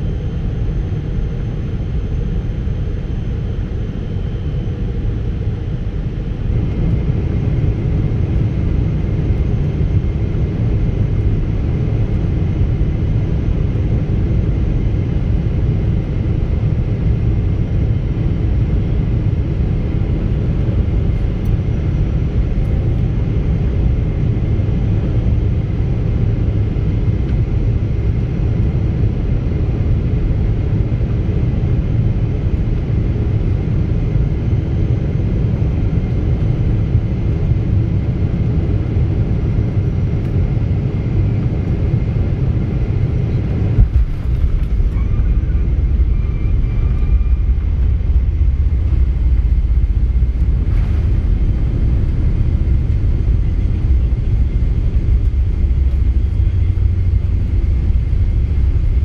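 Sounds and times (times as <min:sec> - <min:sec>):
faint steady whine: 0:00.0 - 0:59.0
jet engine and airflow rumble: 0:00.0 - 0:59.0.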